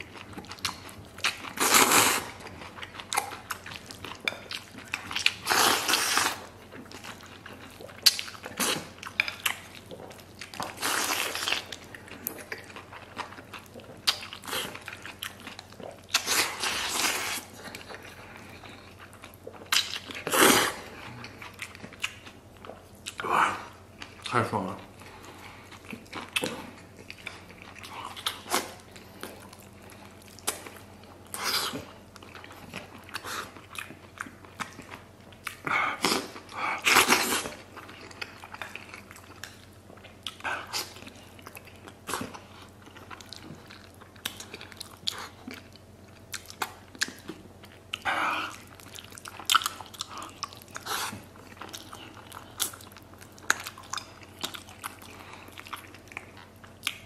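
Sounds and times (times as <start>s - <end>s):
man chewing food: 0.0s - 57.0s.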